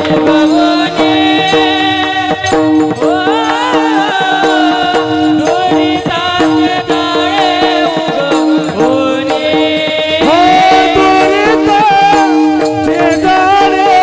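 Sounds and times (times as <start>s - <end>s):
hand percussion: 0.0s - 14.0s
sliding melody line: 0.0s - 14.0s.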